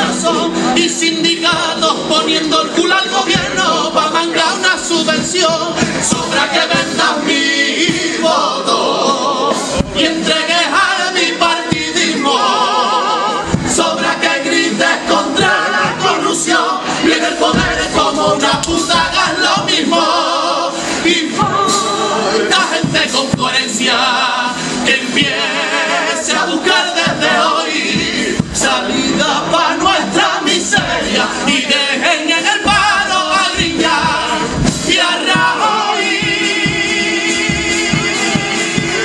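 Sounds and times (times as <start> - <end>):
male choir singing: 0.0 - 39.0.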